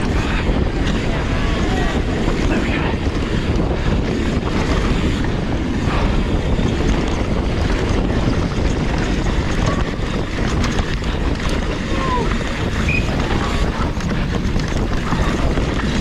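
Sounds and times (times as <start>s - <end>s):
low rumble of bike ride: 0.0s - 16.0s
wind rushing on microphone: 0.0s - 16.0s.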